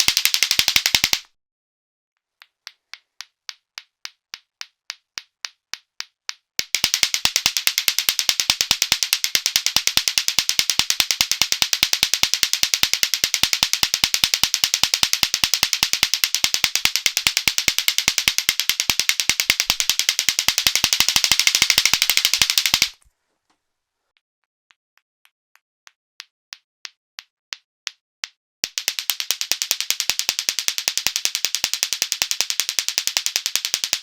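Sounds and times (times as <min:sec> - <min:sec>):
plastic clacker balls clacking: 0:00.0 - 0:01.3, 0:02.3 - 0:23.1, 0:26.2 - 0:34.0.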